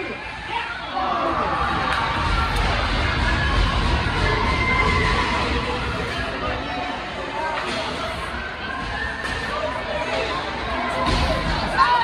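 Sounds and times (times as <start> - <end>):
crowd cheering and shouting: 0.0 - 12.0.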